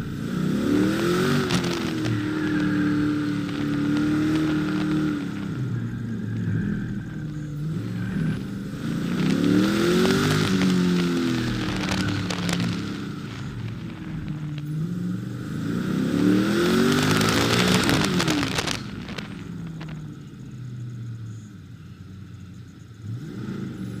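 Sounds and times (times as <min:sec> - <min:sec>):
car engine accelerating: 0:00.0 - 0:24.0
wind and road noise: 0:00.0 - 0:24.0.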